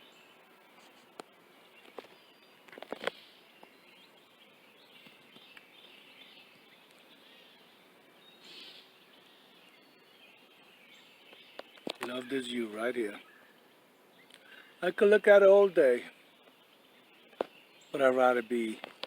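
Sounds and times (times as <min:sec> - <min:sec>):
distant birds chirping: 0:00.0 - 0:19.0.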